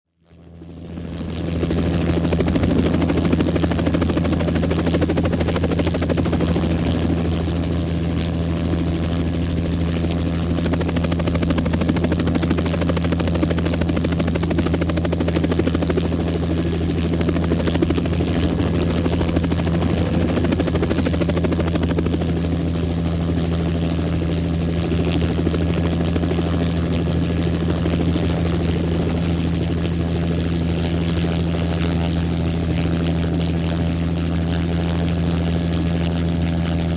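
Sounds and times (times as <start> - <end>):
helicopter drone: 0.1 - 36.9.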